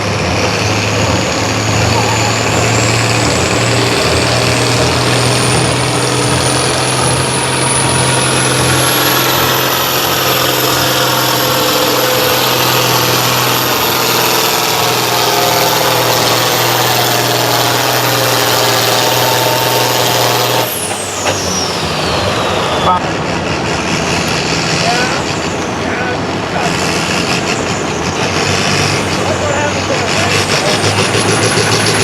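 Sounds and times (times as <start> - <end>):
diesel engine at full throttle: 0.0 - 32.0.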